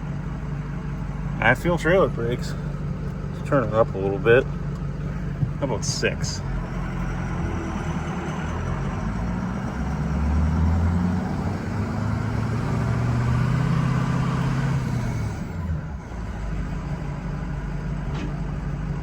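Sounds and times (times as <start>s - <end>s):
diesel pickup engine pulling: 0.0s - 19.0s.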